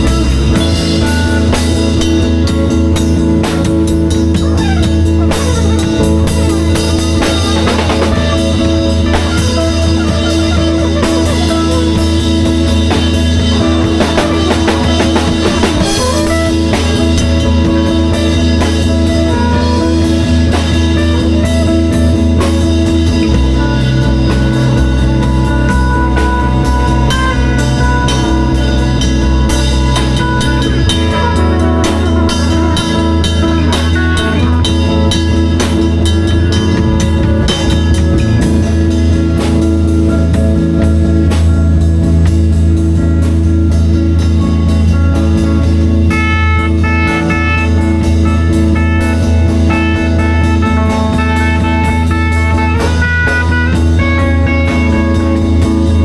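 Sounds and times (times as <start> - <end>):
bass line: 0.0 - 56.0
drum kit: 0.0 - 56.0
electric guitar: 0.0 - 56.0.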